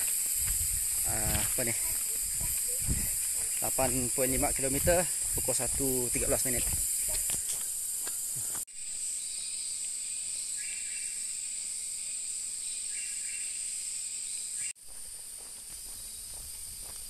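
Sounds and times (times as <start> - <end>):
insect chorus buzzing drone: 0.0 - 17.0
lower insect buzzes: 0.0 - 17.0.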